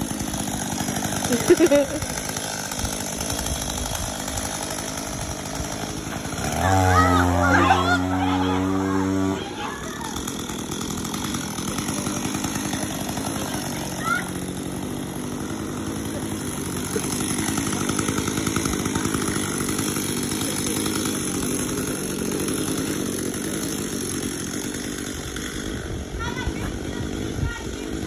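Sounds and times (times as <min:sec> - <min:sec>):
chainsaw engine running: 0:00.0 - 0:28.0.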